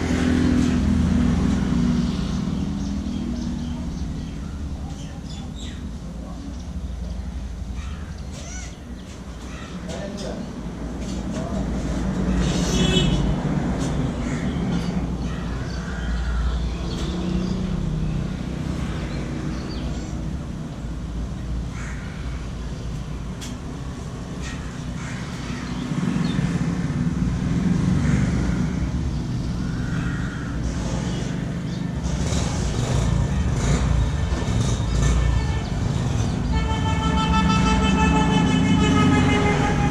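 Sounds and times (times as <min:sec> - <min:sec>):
roadside traffic rumble: 0:00.0 - 0:39.9.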